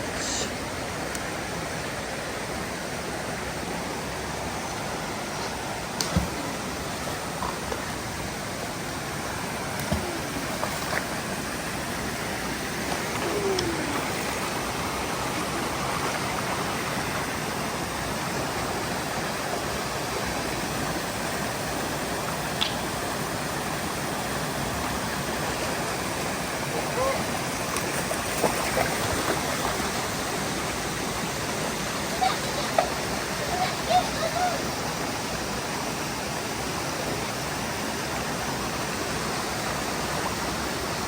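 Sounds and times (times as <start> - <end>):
stream running over rocks: 0.0 - 41.0.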